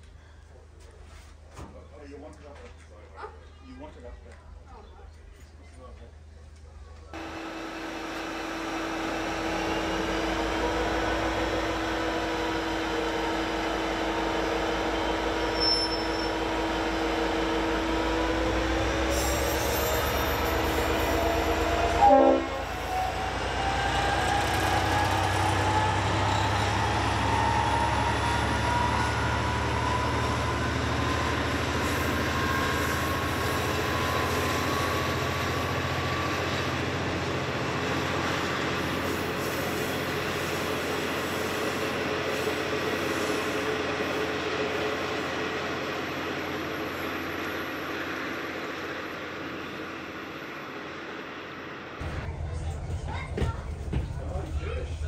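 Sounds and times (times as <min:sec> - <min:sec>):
diesel locomotive engine drone: 0:04.0 - 0:55.0.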